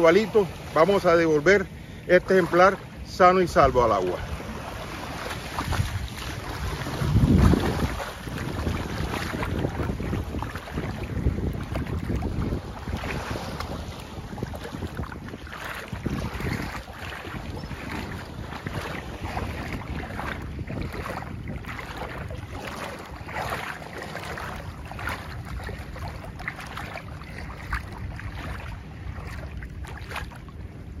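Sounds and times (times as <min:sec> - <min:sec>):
water lapping and splashing: 0:00.0 - 0:31.0
wind buffeting microphone: 0:00.0 - 0:31.0.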